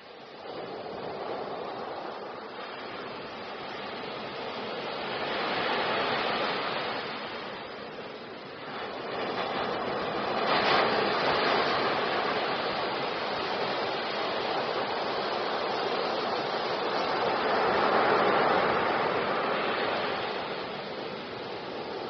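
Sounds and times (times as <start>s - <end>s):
rushing water: 1.3s - 22.0s.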